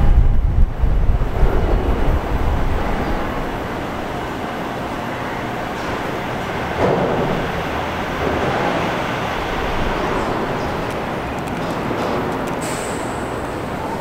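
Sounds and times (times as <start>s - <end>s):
subway train noise: 0.0s - 14.0s.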